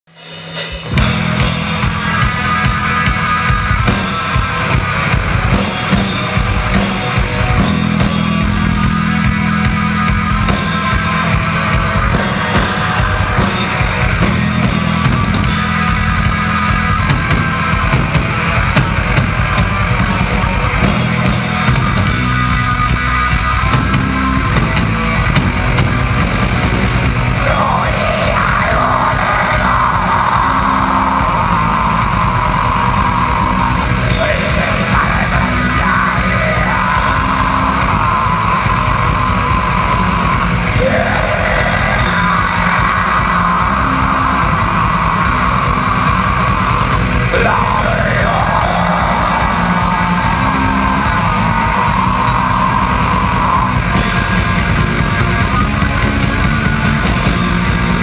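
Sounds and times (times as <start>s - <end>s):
bass guitar: 0.0s - 58.0s
distorted electric guitars: 0.0s - 58.0s
rapid drum-kit hits: 0.2s - 58.0s.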